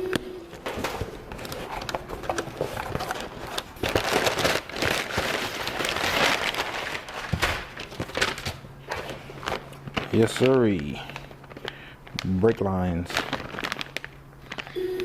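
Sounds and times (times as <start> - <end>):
packaging crinkling and rustling: 0.5 - 14.8.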